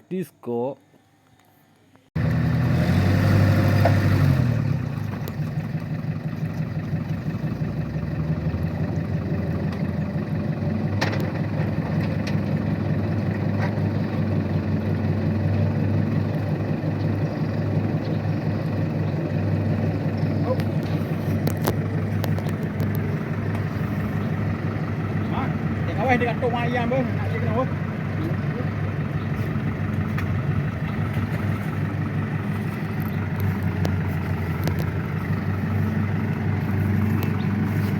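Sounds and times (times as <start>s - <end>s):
tractor engine running: 2.2s - 37.9s.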